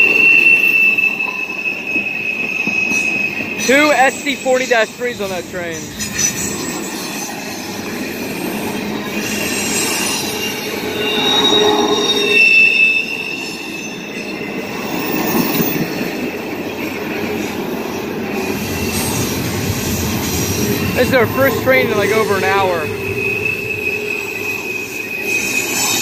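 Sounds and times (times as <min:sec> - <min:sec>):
freight train rolling rumble: 0:00.0 - 0:26.0
steel wheels squealing on rails: 0:00.0 - 0:26.0.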